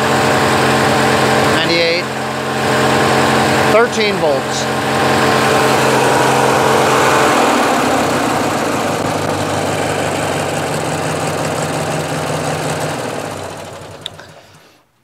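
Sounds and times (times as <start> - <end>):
lawn tractor engine running: 0.0 - 14.8.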